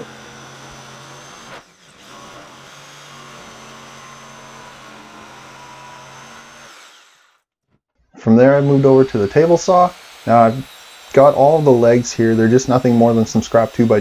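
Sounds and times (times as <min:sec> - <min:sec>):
jigsaw cutting plywood: 0:00.0 - 0:07.5, 0:08.6 - 0:14.0.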